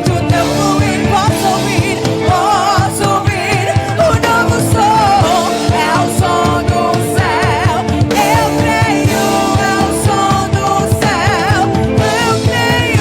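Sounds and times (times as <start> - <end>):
person singing: 0.0 - 13.0
worship band playing: 0.0 - 13.0.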